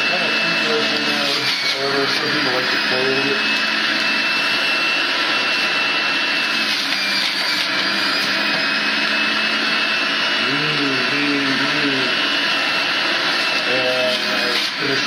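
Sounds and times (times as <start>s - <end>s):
juicer motor whirring: 0.0s - 15.0s.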